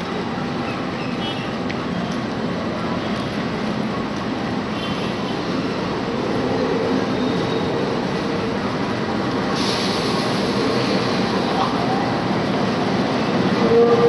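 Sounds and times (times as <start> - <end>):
locomotive engine droning: 0.0 - 14.0.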